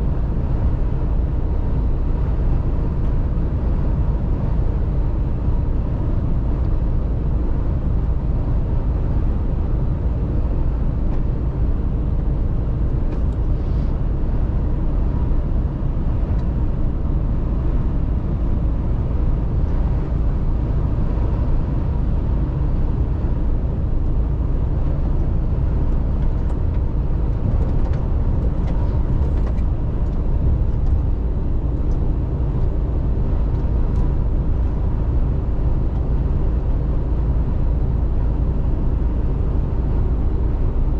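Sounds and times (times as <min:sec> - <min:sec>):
road noise rumble: 0:00.0 - 0:40.9.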